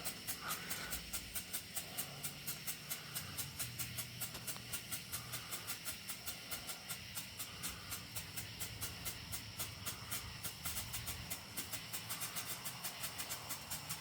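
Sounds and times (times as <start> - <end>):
strobe firework pulsing hiss: 0.0 - 14.0.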